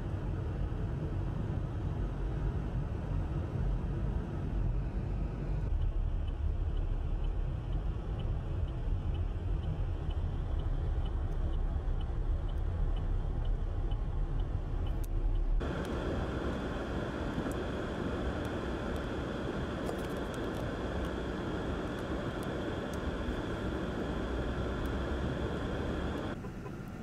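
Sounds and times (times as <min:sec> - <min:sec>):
blizzard wind buffeting microphone: 0:00.1 - 0:26.4.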